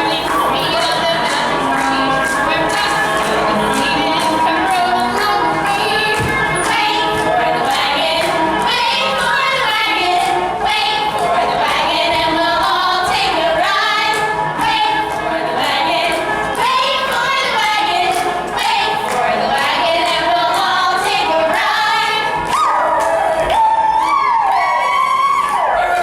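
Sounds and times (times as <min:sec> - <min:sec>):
musical accompaniment: 0:00.0 - 0:24.6
women singing together: 0:00.0 - 0:24.8.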